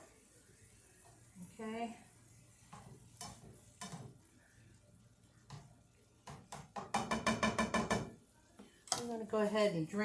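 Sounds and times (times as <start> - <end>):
utensil scraping a skillet: 0.0 - 10.0.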